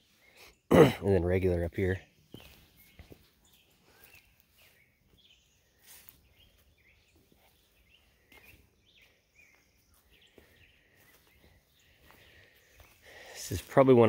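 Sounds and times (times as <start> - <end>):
faint bird chirps: 1.8 - 14.0.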